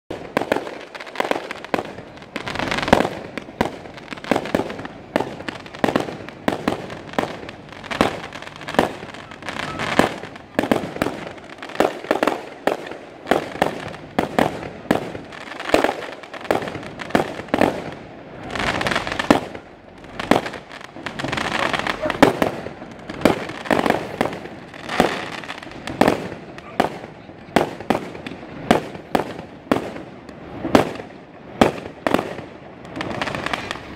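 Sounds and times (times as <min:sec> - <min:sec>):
fireworks bursting: 0:00.1 - 0:33.9
fireworks crackling: 0:00.1 - 0:33.9.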